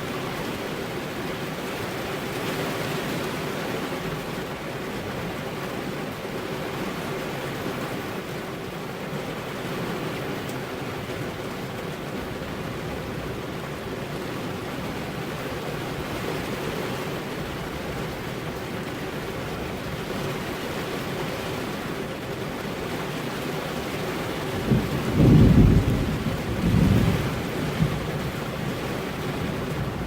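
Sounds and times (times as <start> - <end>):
rain on car window: 0.0 - 30.0.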